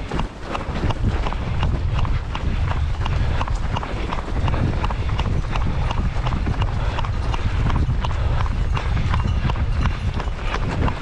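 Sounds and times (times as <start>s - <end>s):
footsteps slapping on pavement: 0.0s - 11.0s
wind buffeting microphone: 0.0s - 11.0s.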